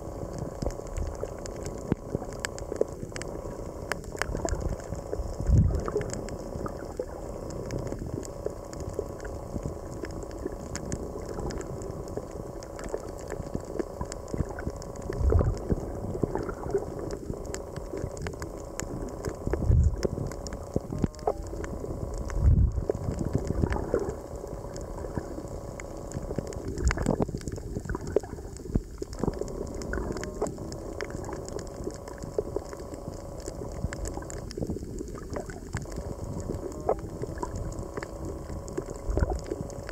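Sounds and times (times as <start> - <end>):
fine underwater crackles: 0.0 - 39.9
muffled underwater rush: 0.0 - 39.9.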